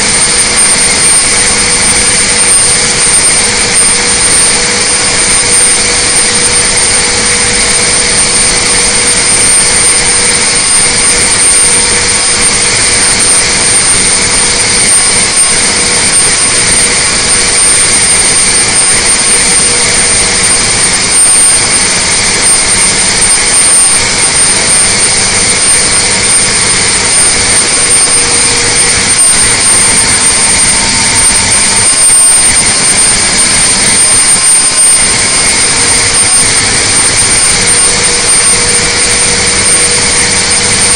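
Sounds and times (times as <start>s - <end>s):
diesel engine at full throttle: 0.0s - 40.9s
high whine: 0.0s - 40.9s.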